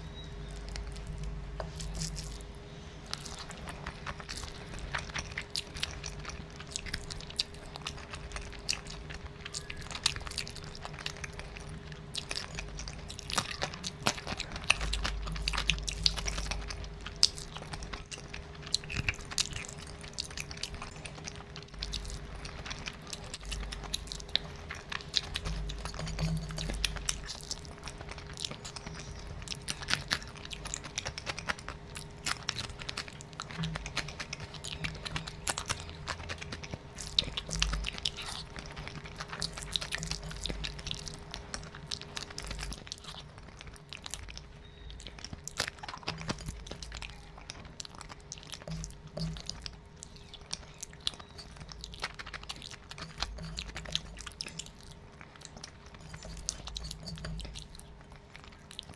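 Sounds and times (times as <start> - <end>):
chewing rice: 0.0 - 58.9
faint steady hum: 0.0 - 58.9.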